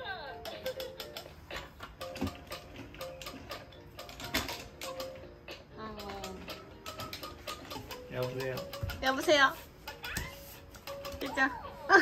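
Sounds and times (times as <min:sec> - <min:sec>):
soft background music: 0:00.0 - 0:12.0
plastic toys clicking: 0:00.3 - 0:11.6.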